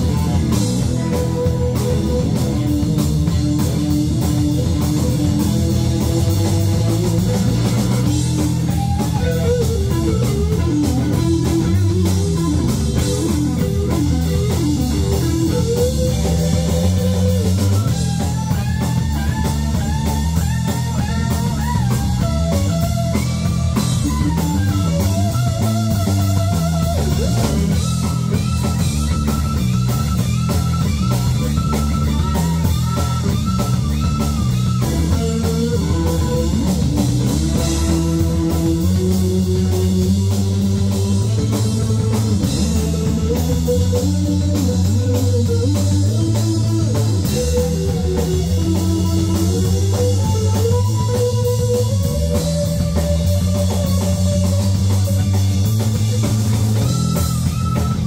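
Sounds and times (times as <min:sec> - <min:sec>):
bass guitar: 0:00.0 - 0:58.0
drum kit: 0:00.0 - 0:58.0
electric lead guitar: 0:00.0 - 0:58.0.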